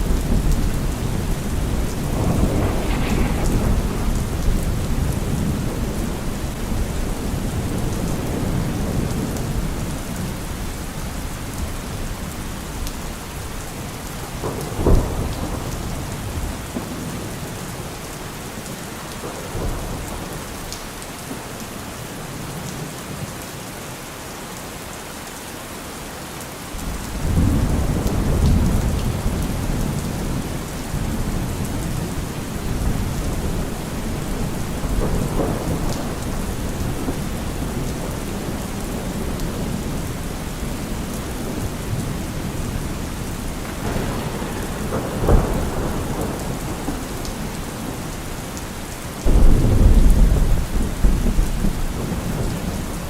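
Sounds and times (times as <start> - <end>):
rolling thunder: 0.0 - 22.0, 26.8 - 53.0
heavy rain drumming: 0.0 - 25.6, 26.4 - 53.0.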